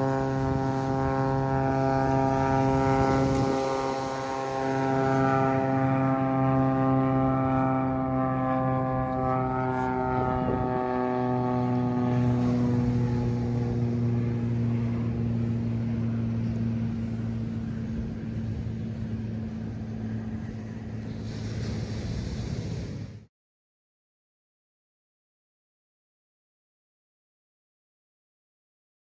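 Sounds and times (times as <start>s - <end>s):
propeller airplane engine drone: 0.0s - 23.3s
surf: 0.0s - 23.3s
wind: 0.0s - 23.3s.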